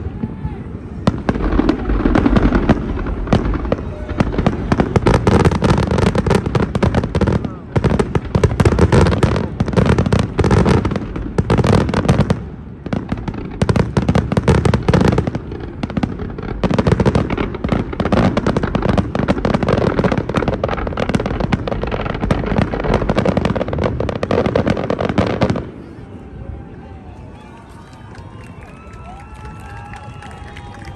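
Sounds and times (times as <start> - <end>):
fireworks bangs and crackle: 0.0 - 30.9.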